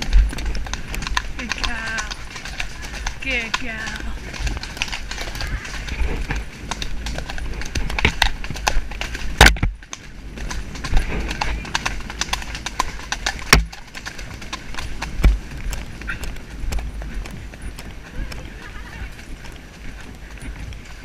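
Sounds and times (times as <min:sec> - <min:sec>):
horse hoofbeats on dirt: 0:00.0 - 0:21.0.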